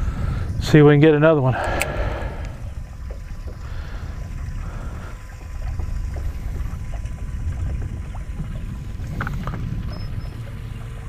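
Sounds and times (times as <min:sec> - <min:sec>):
waves lapping against boat: 0:00.0 - 0:11.0
wind buffeting microphone: 0:00.0 - 0:11.0.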